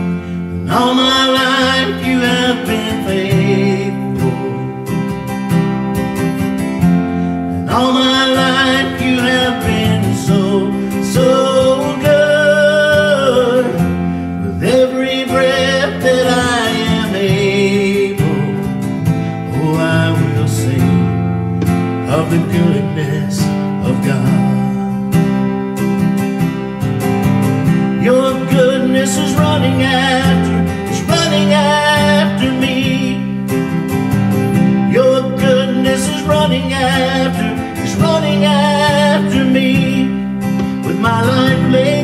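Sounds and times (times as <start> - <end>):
man singing: 0.0 - 5.2, 7.6 - 25.0, 27.9 - 33.6, 34.6 - 42.0
acoustic guitar strumming: 0.0 - 42.0
electric bass guitar: 0.0 - 42.0.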